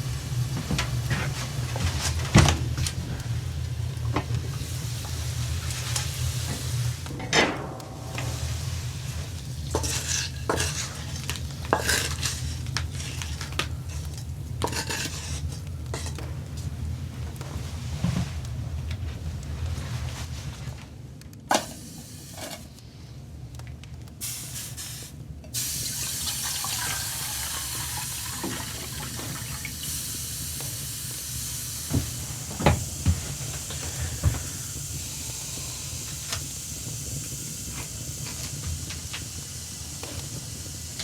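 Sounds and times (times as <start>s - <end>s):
food sizzling on a stove: 0.0s - 7.1s, 8.1s - 18.8s, 21.5s - 22.8s, 24.2s - 41.0s.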